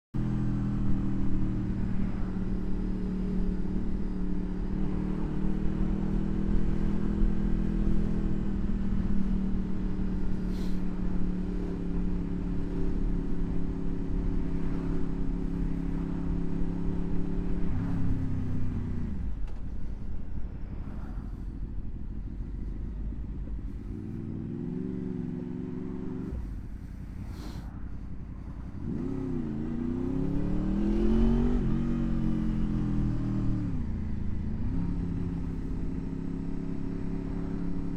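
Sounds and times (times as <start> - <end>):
motorcycle engine running: 0.2 - 37.9
road and wind noise: 0.2 - 37.9.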